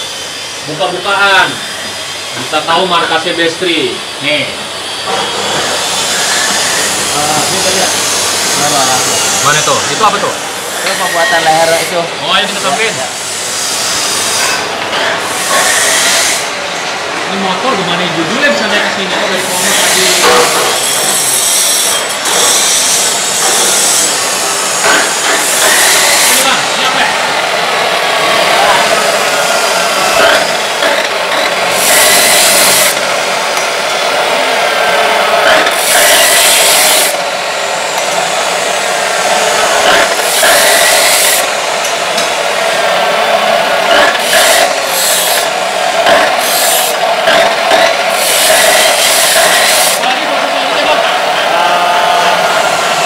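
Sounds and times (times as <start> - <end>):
cut-off saw motor whine: 0.0 - 53.0
metalworking power tools running: 0.0 - 53.0
saw disc grinding metal: 0.0 - 53.0.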